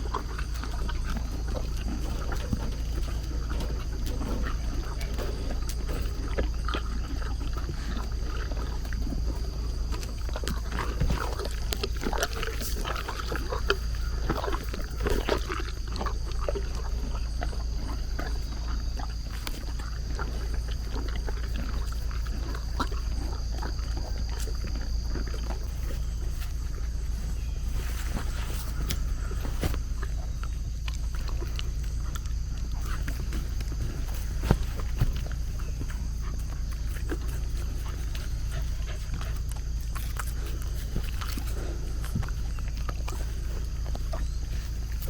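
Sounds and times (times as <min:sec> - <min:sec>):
dog snuffling and grunting: 0:00.0 - 0:45.0
steady low rumble: 0:00.0 - 0:45.0.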